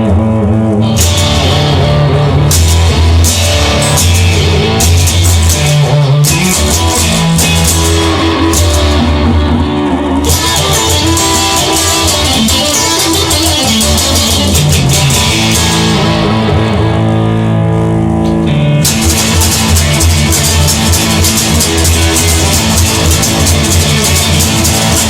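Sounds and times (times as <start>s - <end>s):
instrumental rock music: 0.0s - 25.0s.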